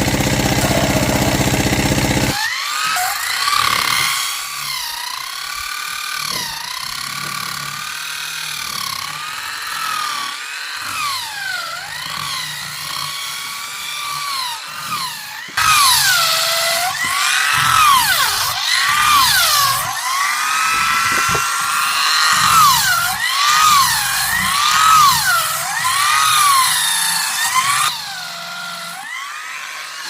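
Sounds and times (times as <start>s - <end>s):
power tool cutting wood: 0.0s - 30.0s.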